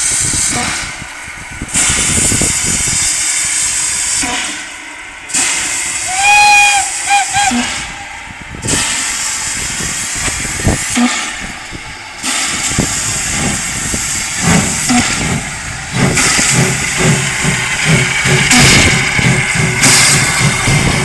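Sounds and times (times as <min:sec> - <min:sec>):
steam hissing: 0:00.0 - 0:21.0
steam locomotive chuffing: 0:00.0 - 0:21.0.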